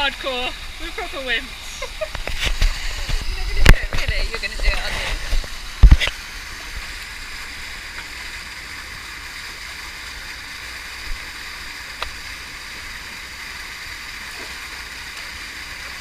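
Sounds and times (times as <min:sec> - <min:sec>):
waterfall pouring into a pool: 0:00.0 - 0:16.0.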